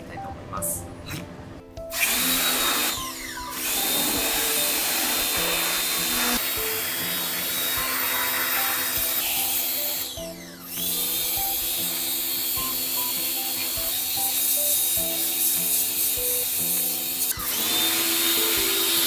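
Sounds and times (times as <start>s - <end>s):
steam cleaner hissing: 2.0s - 10.2s, 10.8s - 19.0s.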